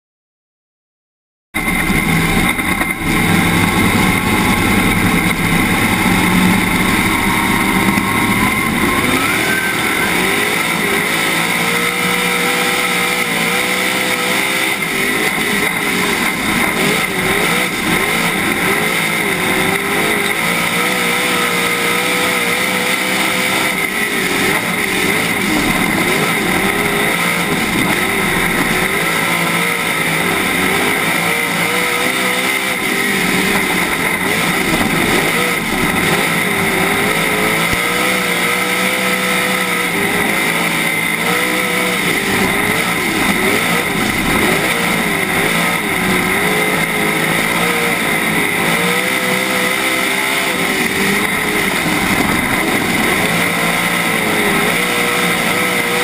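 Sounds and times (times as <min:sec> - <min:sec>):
race car engine revving: 0:01.6 - 0:56.0.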